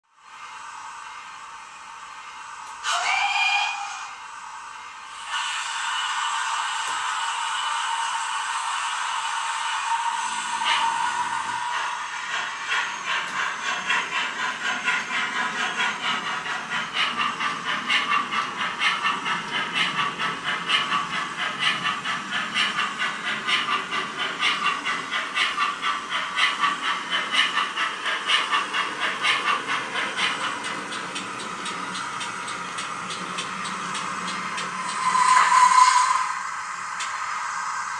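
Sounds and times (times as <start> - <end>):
model steam locomotive chuffing: 0.2 - 37.9.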